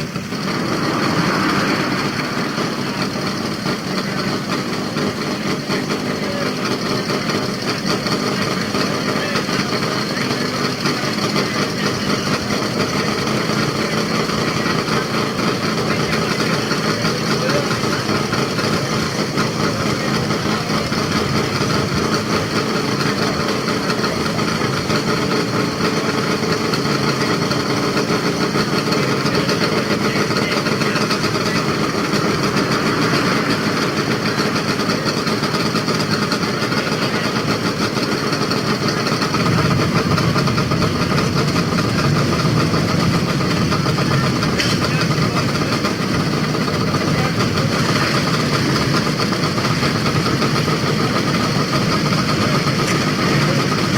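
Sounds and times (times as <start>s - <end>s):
motorcycle engines idling: 0.0s - 53.9s.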